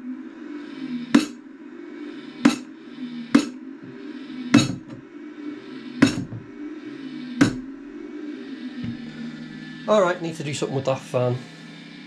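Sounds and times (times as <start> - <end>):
exhaust fan buzzing: 0.0 - 12.0.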